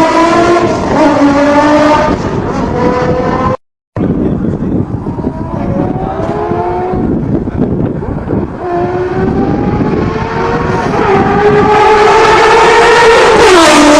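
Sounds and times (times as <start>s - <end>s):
car engine accelerating hard: 0.0s - 3.6s, 4.8s - 13.9s.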